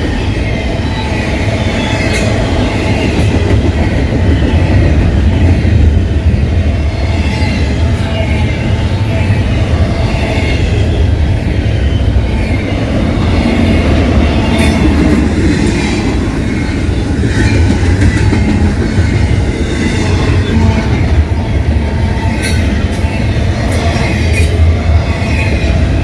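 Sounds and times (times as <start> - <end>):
freight train rumbling: 0.0 - 26.0.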